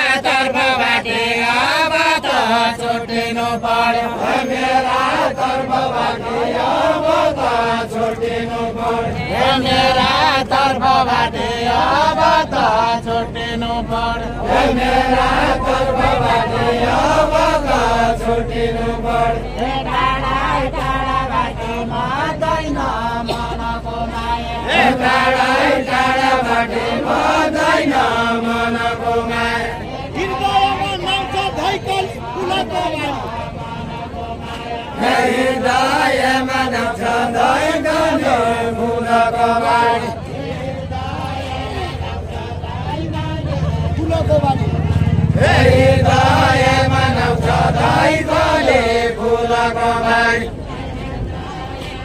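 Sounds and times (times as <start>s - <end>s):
voices singing folk song: 0.0s - 52.0s.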